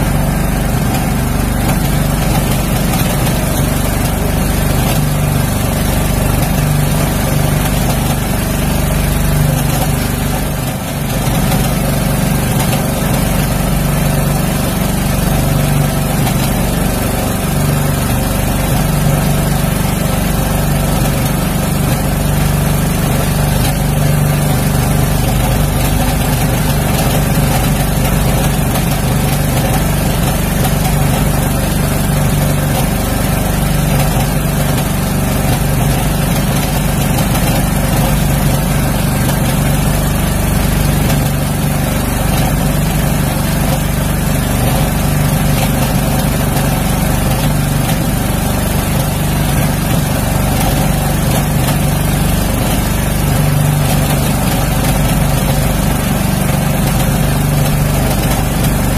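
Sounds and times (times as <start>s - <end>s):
boat engine droning: 0.0s - 58.9s.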